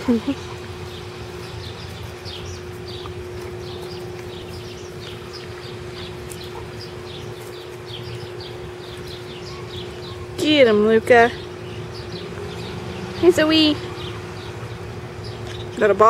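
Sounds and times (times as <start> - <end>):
steady low hum: 0.0 - 16.0
bird chirping in falling notes: 0.1 - 16.0.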